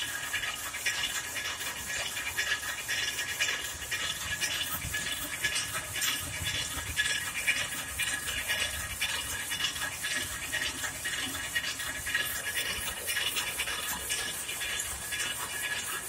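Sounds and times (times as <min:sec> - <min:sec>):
loom mechanical clatter: 0:00.0 - 0:16.0.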